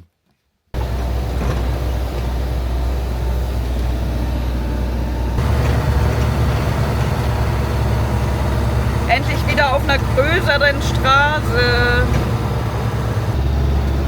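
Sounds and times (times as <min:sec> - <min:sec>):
bus engine and road noise: 0:00.8 - 0:14.0.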